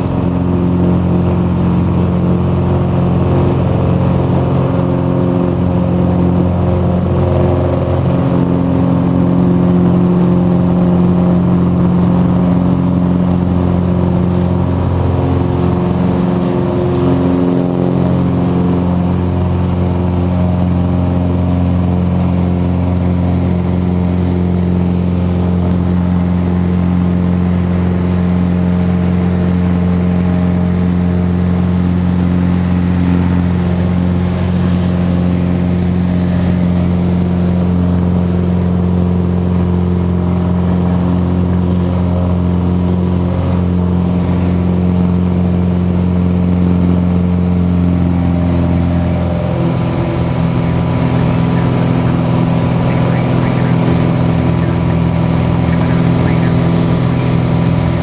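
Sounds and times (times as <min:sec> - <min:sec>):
airplane engine drone in cabin: 0:00.0 - 0:58.0.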